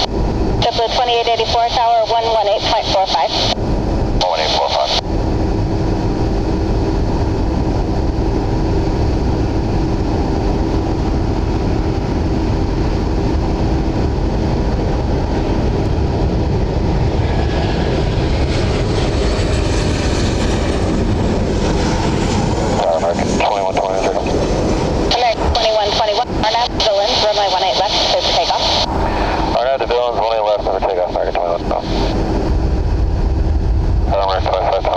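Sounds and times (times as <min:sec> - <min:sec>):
high engine whine: 0:00.0 - 0:34.9
jet engines rumbling: 0:00.0 - 0:34.9.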